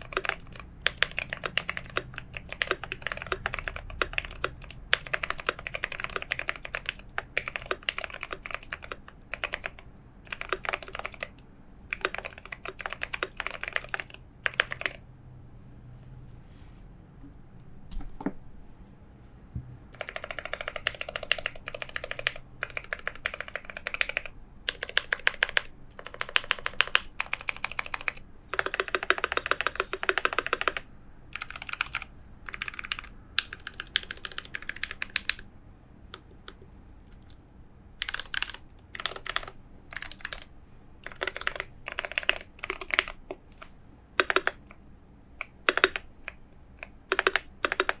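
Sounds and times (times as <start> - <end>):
typing on mechanical keyboard: 0.0 - 15.0, 19.9 - 35.4, 38.0 - 44.8, 45.4 - 48.0.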